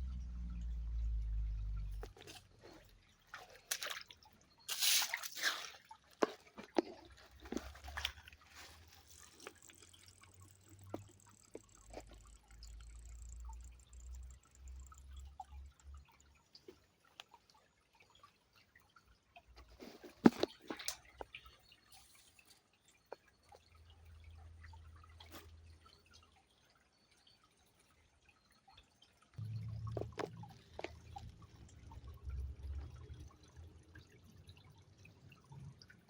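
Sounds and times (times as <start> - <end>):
water splashing and dripping: 0.0 - 36.0.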